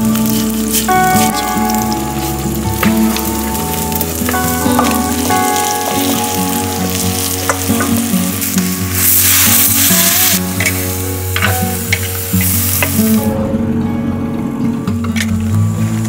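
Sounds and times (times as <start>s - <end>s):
water hissing in hot pot: 0.0s - 13.3s
oil and spices sizzling: 0.0s - 13.4s, 15.2s - 16.0s.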